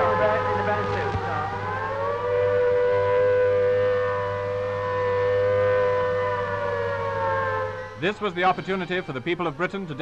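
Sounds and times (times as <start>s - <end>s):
air-raid siren wailing: 0.0s - 10.0s.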